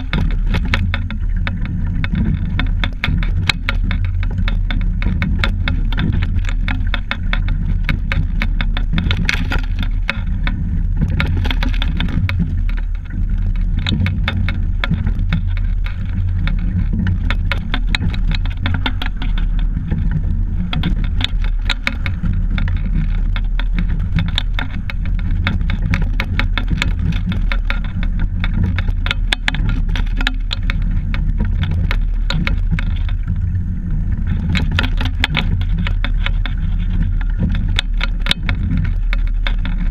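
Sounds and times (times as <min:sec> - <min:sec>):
crackle of fine ticks: 0:00.0 - 0:39.9
hull and water rumble: 0:00.0 - 0:39.9.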